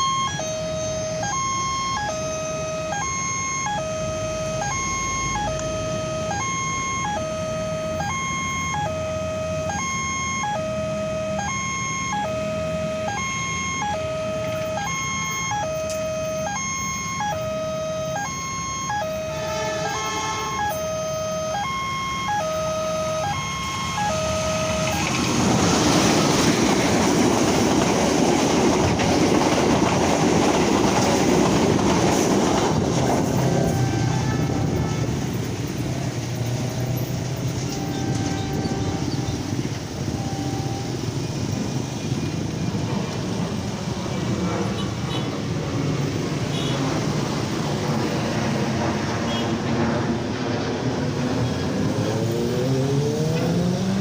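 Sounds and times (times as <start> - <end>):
train passing: 0.0 - 54.0
two-tone crossing warning siren: 0.0 - 54.0.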